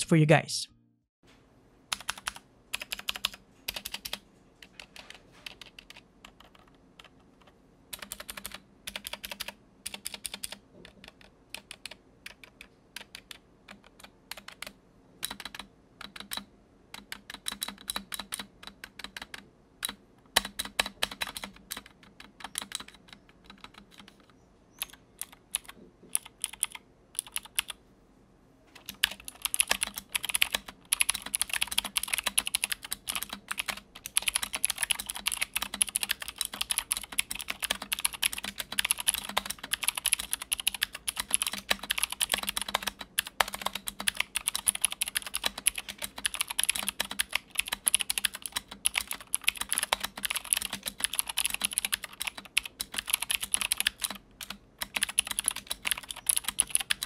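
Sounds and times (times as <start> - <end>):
clicky mechanical keyboard typing: 1.9 - 27.8, 28.8 - 57.0.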